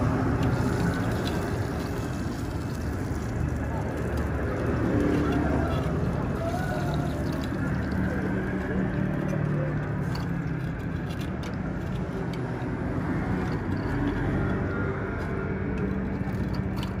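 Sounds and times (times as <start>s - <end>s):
low rumble and hum of fryer: 0.0s - 17.0s.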